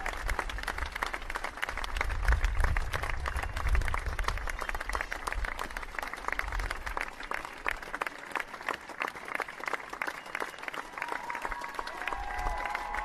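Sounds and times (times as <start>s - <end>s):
crowd applause: 0.0s - 13.0s.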